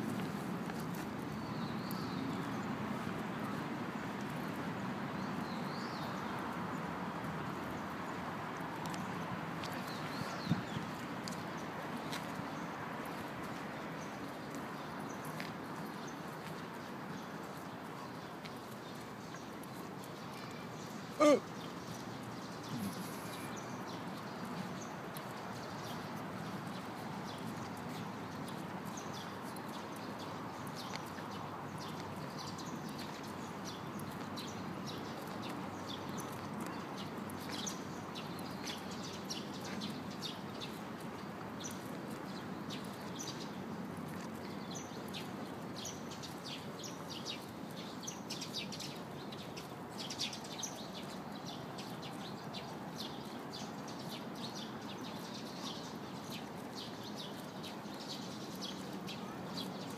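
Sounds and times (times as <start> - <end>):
distant traffic hum: 0.0 - 59.9
small birds chirping: 0.1 - 59.9.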